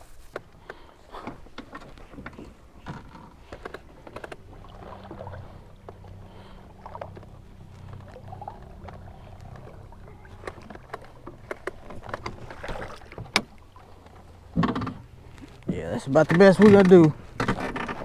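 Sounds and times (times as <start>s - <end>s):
clicks and knocks on boat: 0.0s - 18.0s.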